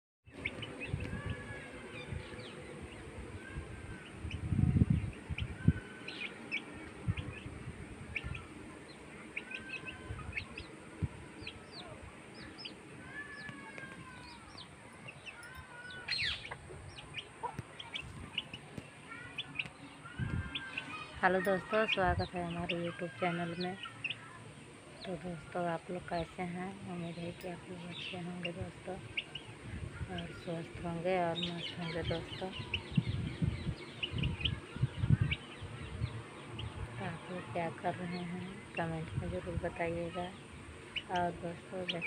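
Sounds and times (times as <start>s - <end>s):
chicks cheeping: 0.3s - 42.0s.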